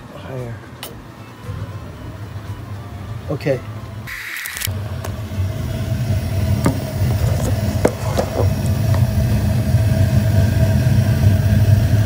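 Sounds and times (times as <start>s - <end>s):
gas burner rumbling: 1.4s - 12.0s.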